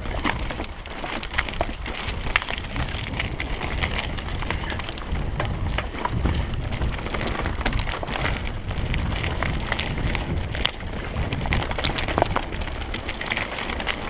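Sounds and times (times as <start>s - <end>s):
bike tyres crunching over stones: 0.0s - 14.0s
stones and bike rattling: 0.0s - 14.0s
wind rumble on microphone: 0.0s - 14.0s.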